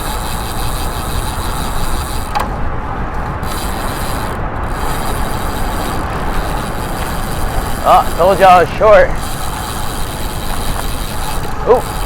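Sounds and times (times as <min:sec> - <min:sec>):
bicycle tyres crunching on gravel: 0:00.0 - 0:12.0
wind on microphone: 0:00.0 - 0:12.0.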